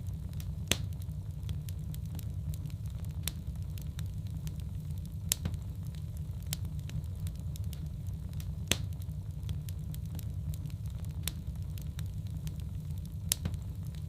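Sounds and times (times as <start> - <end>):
fire low rumble: 0.0 - 14.0
logs crackling and popping: 0.0 - 14.0.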